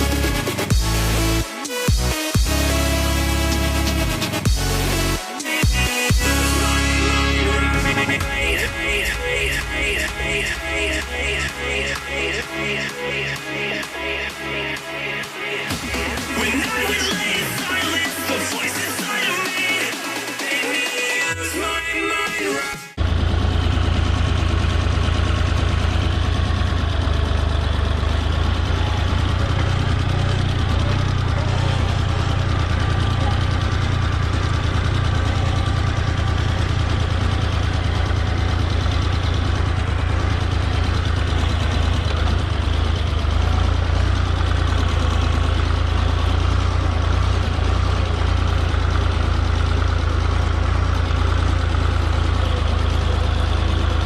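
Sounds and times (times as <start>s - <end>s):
tractor engine running: 0.0s - 5.2s, 5.8s - 22.1s, 23.0s - 54.0s.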